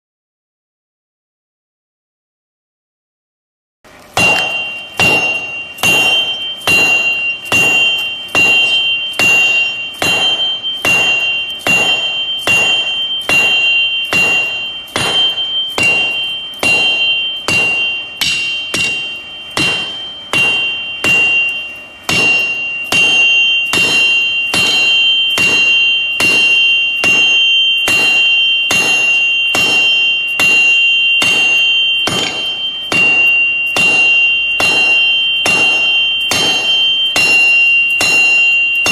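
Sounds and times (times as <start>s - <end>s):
hammer striking metal anvil: 4.1s - 38.9s.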